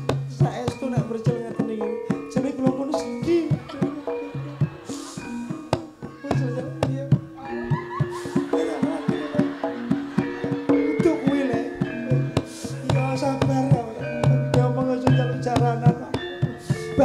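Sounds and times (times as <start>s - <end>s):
hand drum strokes: 0.0s - 17.0s
ringing metallophone notes: 0.0s - 17.0s.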